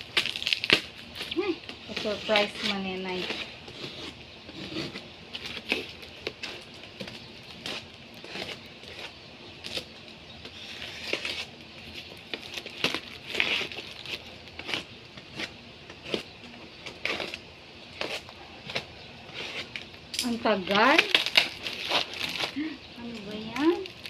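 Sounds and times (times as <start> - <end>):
packaging crinkling and tearing: 0.0 - 24.0.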